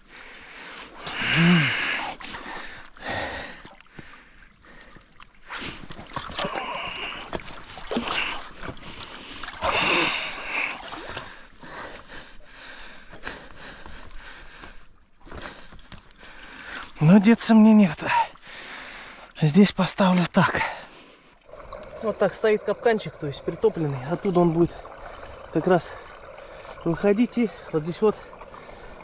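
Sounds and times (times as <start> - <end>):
creek water splashing: 0.0 - 29.0.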